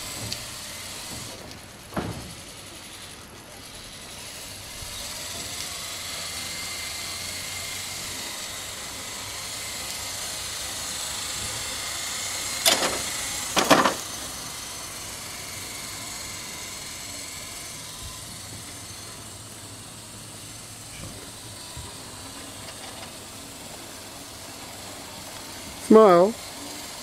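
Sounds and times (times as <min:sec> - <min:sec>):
mobility scooter motor whine: 0:00.0 - 0:27.0.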